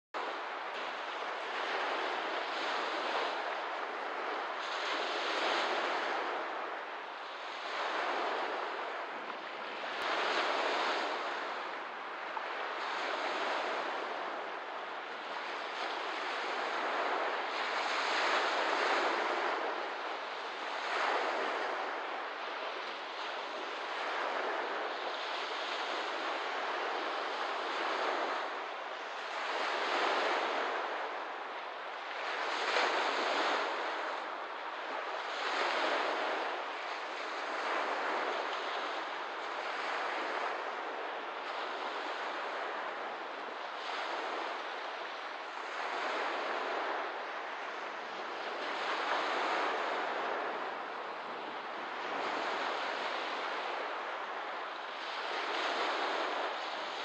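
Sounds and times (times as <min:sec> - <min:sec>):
lake waves washing onto shore: 0:00.2 - 0:57.0.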